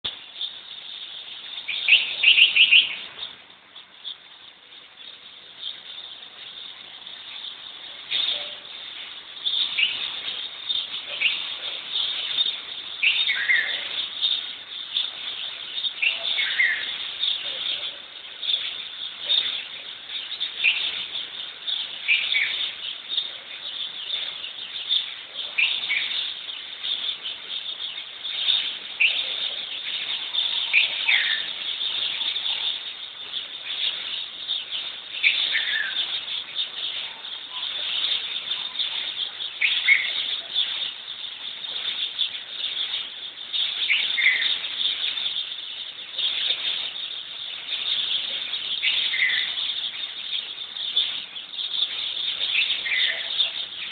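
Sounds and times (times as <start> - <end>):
birds chirping and twittering: 0.0 - 53.9.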